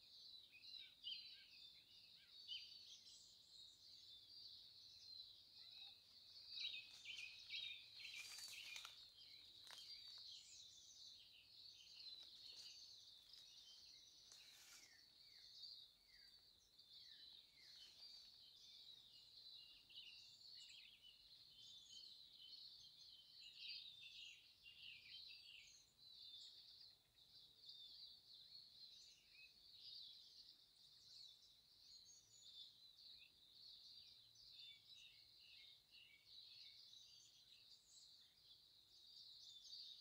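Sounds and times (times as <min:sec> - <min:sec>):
songbirds twittering: 0:00.0 - 0:40.0.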